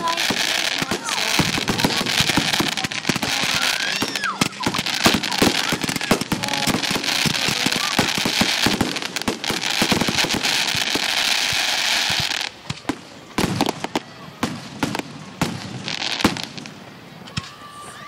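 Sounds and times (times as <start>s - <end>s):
fireworks bangs and pops: 0.0s - 17.6s
fireworks crackling: 0.0s - 18.0s.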